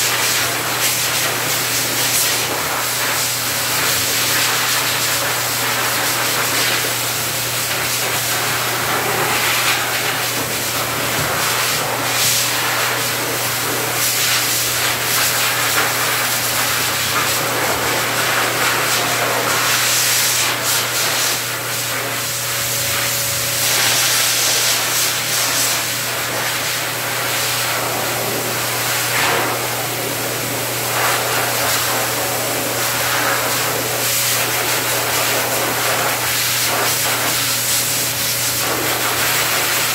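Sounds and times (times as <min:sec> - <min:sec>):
blower dryer air rushing: 0:00.0 - 0:39.9.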